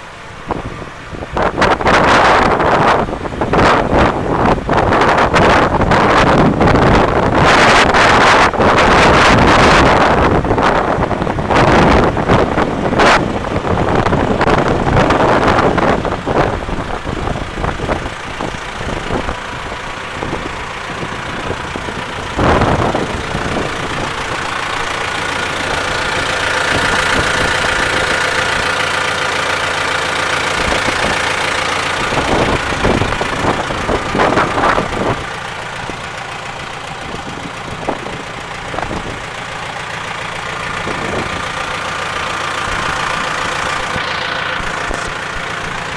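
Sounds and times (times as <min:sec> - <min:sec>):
diesel engine idling: 0:00.0 - 0:45.9
wind buffeting microphone: 0:00.3 - 0:45.9.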